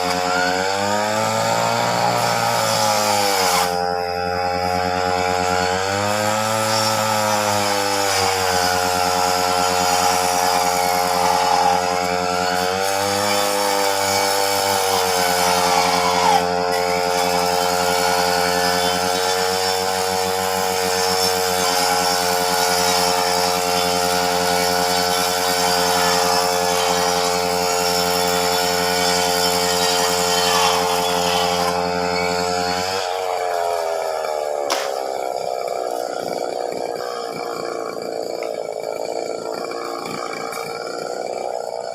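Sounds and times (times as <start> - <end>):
chainsaw cutting branches: 0.0 - 41.9.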